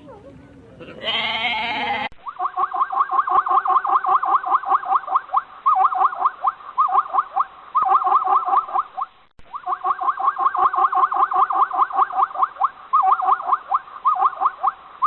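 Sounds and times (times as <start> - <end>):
animal rapid pitched calls: 1.0 - 14.8.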